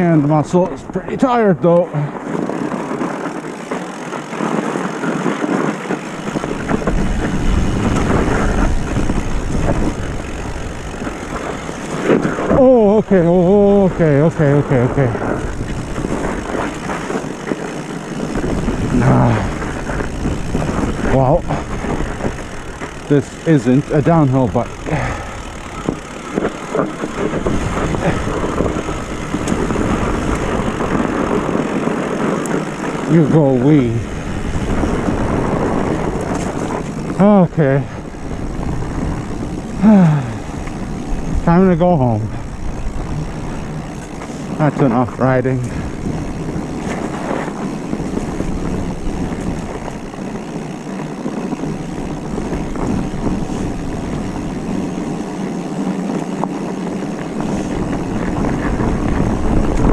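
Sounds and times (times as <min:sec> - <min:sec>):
bike tyre rumble on trail: 0:00.0 - 0:59.9
wind rumble on microphone: 0:00.0 - 0:59.9
small rattles: 0:01.9 - 0:59.9.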